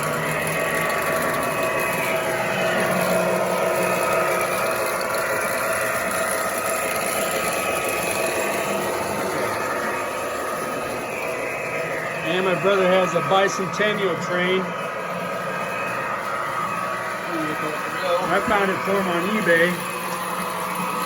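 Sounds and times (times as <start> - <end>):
toy train motor whir: 0.0 - 14.6, 15.4 - 21.0.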